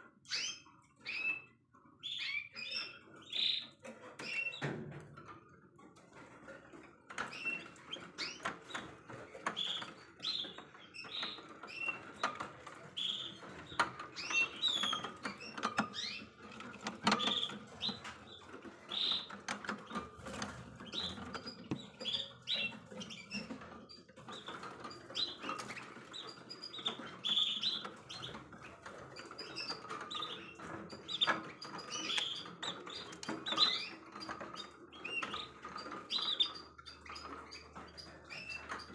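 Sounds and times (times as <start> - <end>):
canaries chirping: 0.0 - 38.9.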